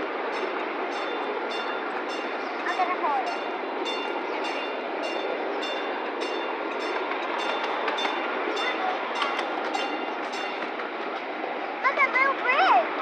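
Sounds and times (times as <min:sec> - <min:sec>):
train wheels rumbling on rail: 0:00.0 - 0:13.0
wheels clicking over rail joints: 0:00.0 - 0:13.0.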